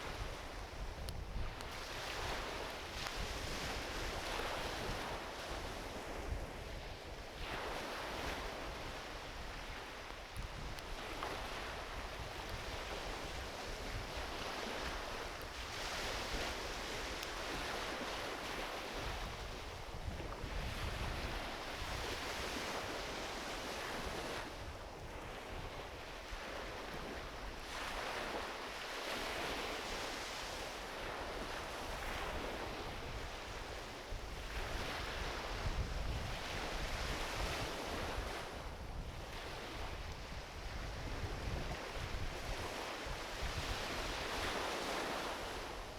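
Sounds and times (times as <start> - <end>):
small waves breaking on beach: 0.0 - 45.9
wind rumble on microphone: 0.0 - 45.9.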